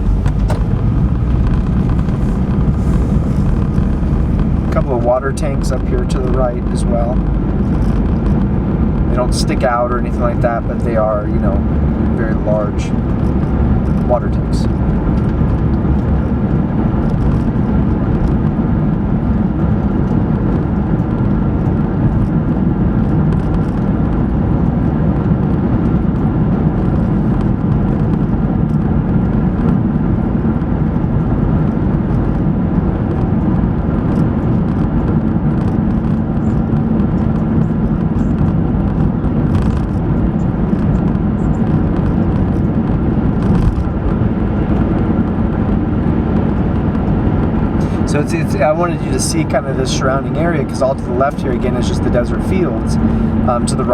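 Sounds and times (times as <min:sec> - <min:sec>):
car cabin road noise: 0:00.0 - 0:53.9.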